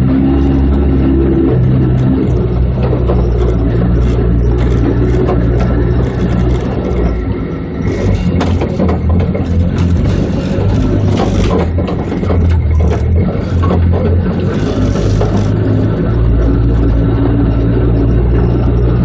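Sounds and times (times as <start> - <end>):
off-road vehicle engine under load: 0.0 - 19.0.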